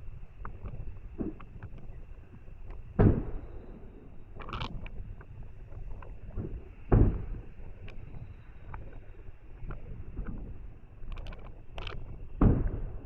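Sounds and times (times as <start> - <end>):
low continuous rumble: 0.0 - 13.0.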